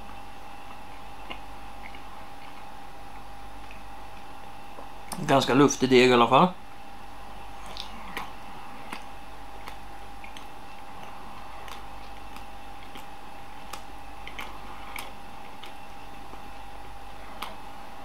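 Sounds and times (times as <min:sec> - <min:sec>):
faint steady hum: 0:00.0 - 0:18.0
person chewing: 0:00.7 - 0:05.2, 0:07.5 - 0:18.0.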